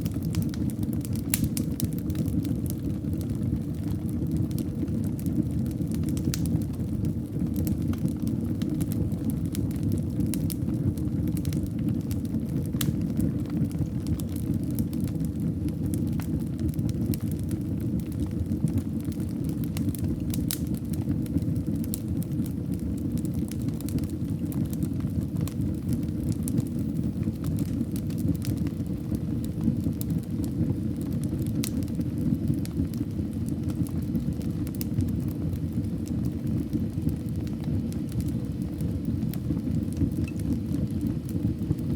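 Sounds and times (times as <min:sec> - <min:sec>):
fire crackling and popping: 0:00.0 - 0:41.9
fire rumbling: 0:00.0 - 0:41.9.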